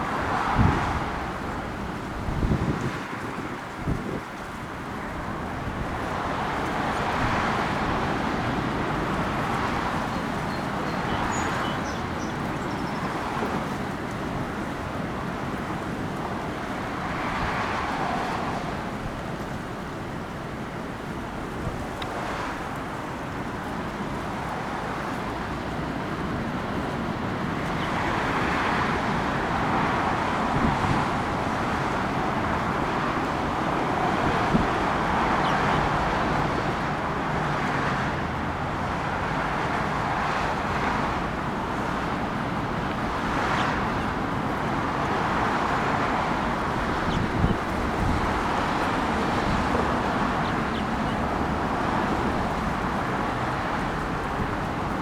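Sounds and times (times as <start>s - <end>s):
cars passing: 0.0s - 55.0s.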